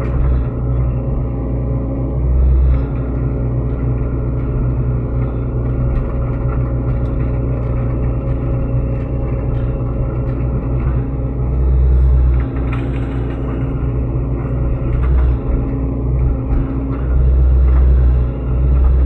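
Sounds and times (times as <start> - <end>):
excavator diesel engine running: 0.0 - 19.0
faint clicks and knocks: 2.7 - 11.3, 12.1 - 19.0.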